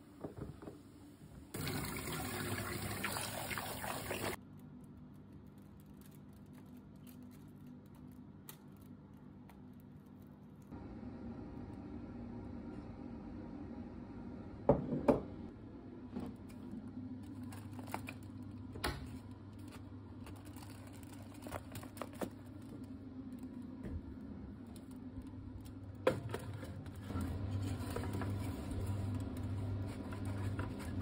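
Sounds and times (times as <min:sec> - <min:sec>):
oven low hum: 0:04.2 - 0:31.0.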